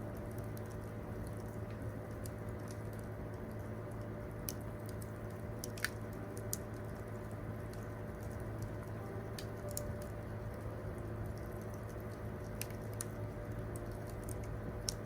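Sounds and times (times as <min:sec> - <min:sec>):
campfire crackling and popping: 0:00.0 - 0:15.0
steady low rumble: 0:00.0 - 0:15.0.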